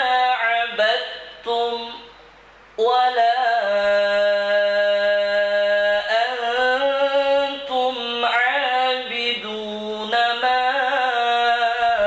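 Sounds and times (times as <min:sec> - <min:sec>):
man chanting melodically: 0:00.0 - 0:02.2, 0:02.8 - 0:12.0.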